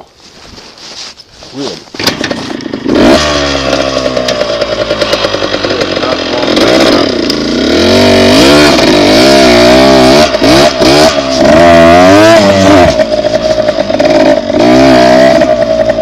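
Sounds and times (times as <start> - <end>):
dirt bike engine revving: 1.9 - 16.0.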